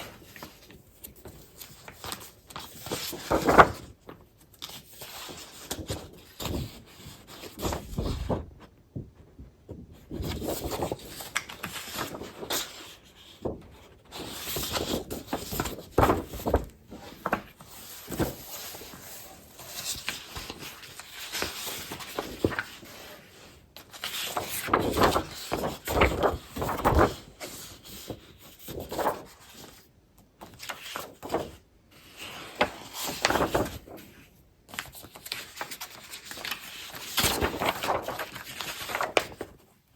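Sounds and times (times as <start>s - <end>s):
paper rustling: 0.0s - 39.9s.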